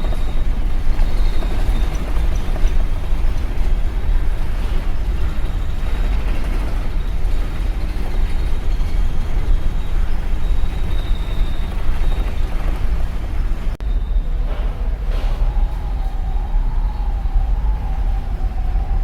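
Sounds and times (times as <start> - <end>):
ship engine low rumble: 0.0 - 19.0.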